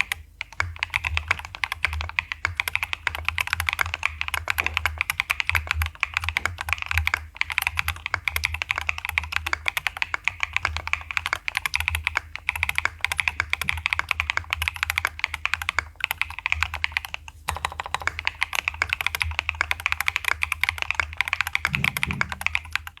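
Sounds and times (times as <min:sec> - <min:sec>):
fast mechanical keyboard typing: 0:00.0 - 0:23.0.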